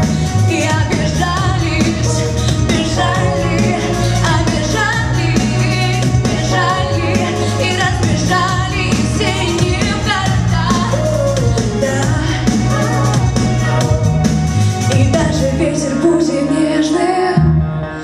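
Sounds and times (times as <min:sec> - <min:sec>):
backing track with heavy bass: 0:00.0 - 0:18.0
woman singing pop song: 0:00.0 - 0:18.0.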